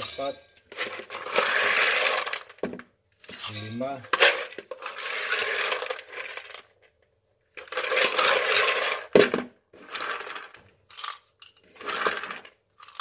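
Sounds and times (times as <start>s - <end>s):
peanuts rattling and spilling: 0.2s - 2.7s, 3.3s - 6.9s, 7.6s - 9.2s, 9.8s - 13.0s.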